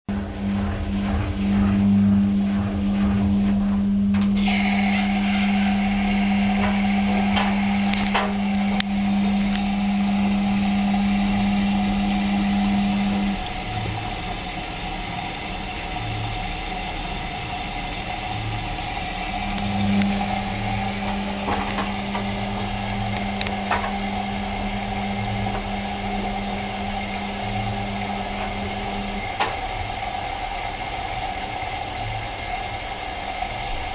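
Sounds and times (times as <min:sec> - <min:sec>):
washing machine motor hum: 0:00.0 - 0:33.9.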